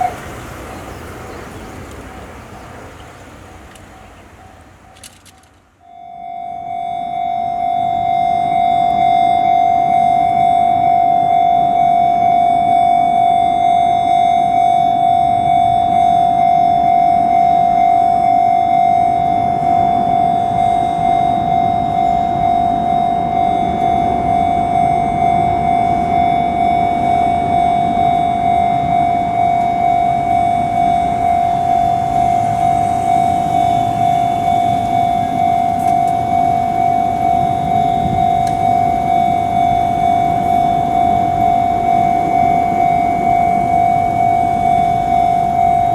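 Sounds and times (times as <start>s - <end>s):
low train rumble: 0.0s - 45.9s
electronic crossing bell clanging: 3.8s - 45.9s.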